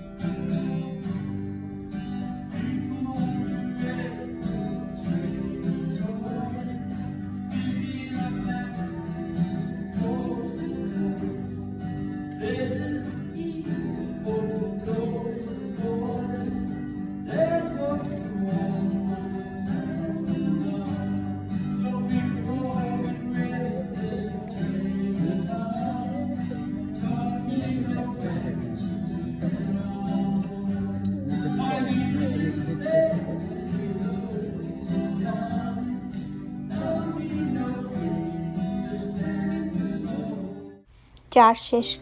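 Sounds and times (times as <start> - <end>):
acoustic guitar strumming: 0.0 - 42.0
person singing a hymn: 2.4 - 40.7.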